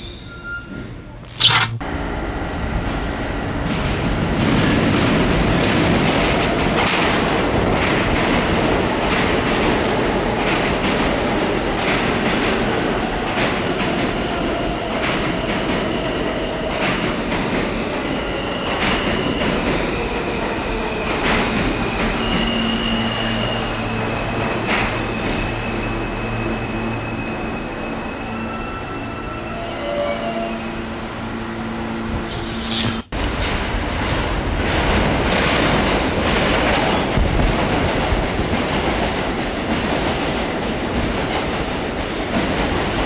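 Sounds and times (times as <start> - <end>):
subway train rumbling on rails: 2.0 - 43.0.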